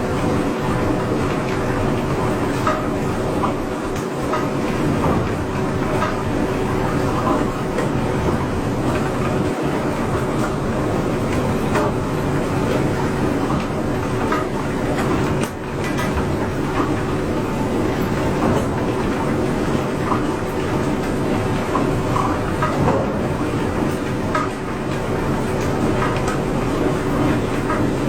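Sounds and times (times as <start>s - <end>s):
machine rumbling and clattering: 0.0s - 28.0s.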